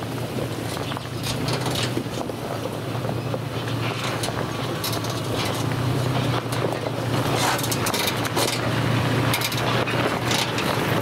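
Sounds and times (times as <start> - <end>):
suv engine low drone: 0.0 - 11.0
tyres crunching over rocks: 0.5 - 11.0.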